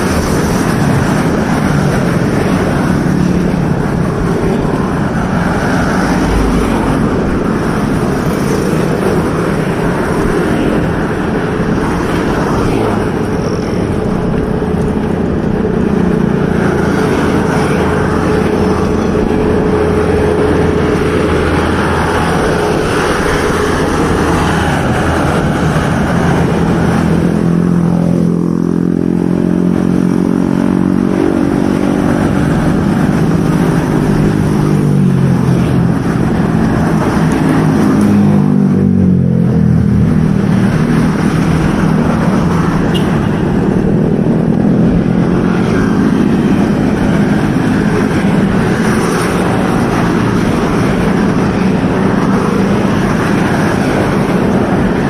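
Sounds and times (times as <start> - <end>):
motorcycle traffic road noise: 0.0 - 55.0.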